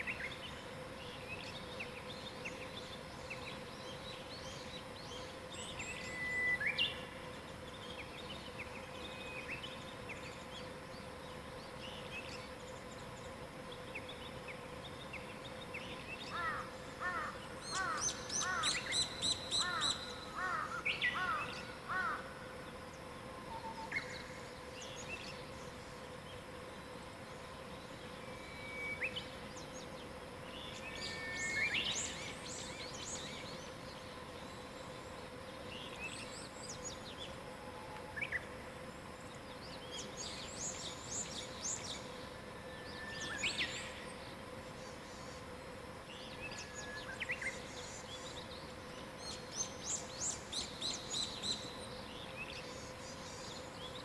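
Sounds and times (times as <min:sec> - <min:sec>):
faint background hiss: 0:00.0 - 0:54.0
low even hum: 0:00.0 - 0:54.0
songbirds chirping and trilling: 0:00.0 - 0:54.0.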